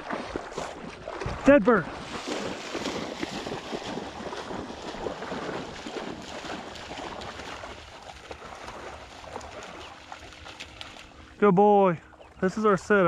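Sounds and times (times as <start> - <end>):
dog splashing through water: 0.0 - 11.3.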